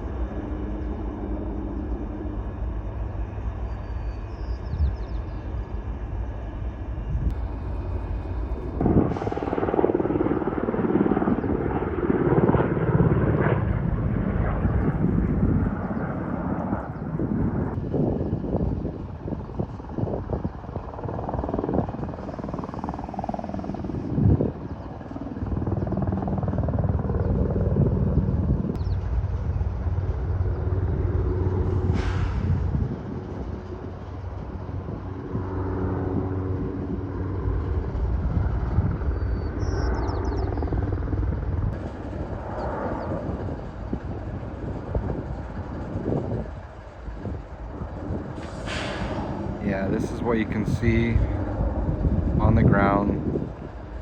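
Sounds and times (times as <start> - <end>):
aircraft engine droning overhead: 0.0 - 54.0.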